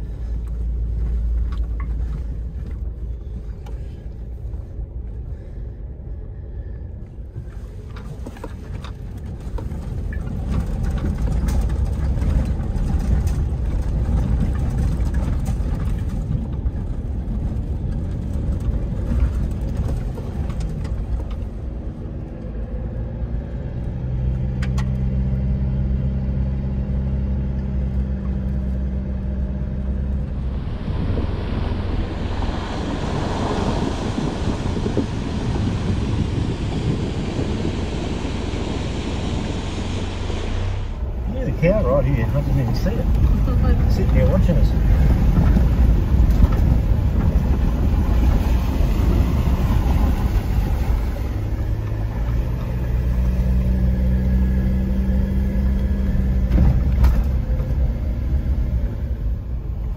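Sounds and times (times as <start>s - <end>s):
car engine running: 0.0s - 59.9s
tyre and road rumble: 0.0s - 59.9s.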